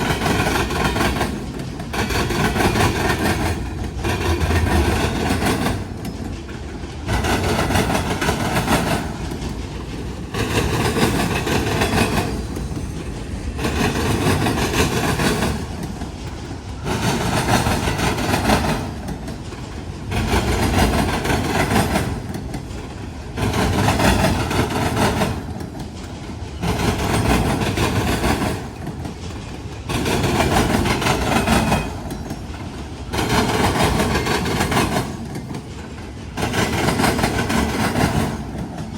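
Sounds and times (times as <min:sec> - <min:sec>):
freight train clattering over crossing: 0:00.0 - 0:38.9.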